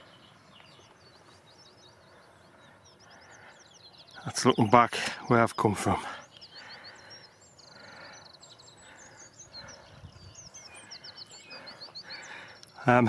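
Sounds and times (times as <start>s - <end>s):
faint outdoor background noise: 0.0s - 13.0s
songbird chirping and trilling: 0.0s - 13.0s.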